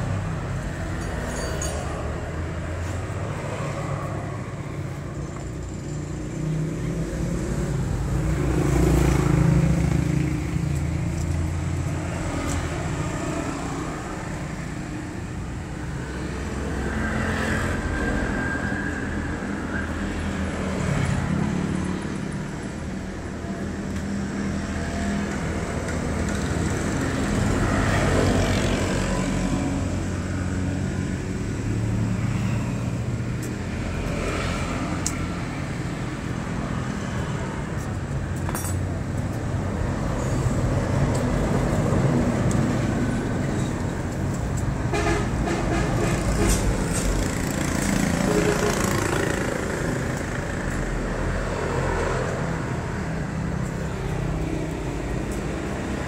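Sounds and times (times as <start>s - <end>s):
passing vehicles rumble: 0.0s - 56.0s.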